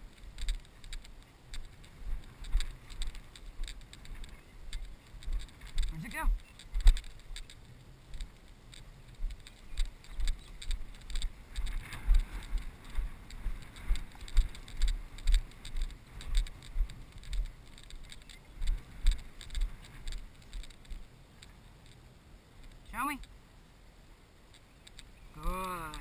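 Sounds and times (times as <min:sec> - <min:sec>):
footsteps through grass: 0:00.0 - 0:21.1
light rustling: 0:00.0 - 0:23.4.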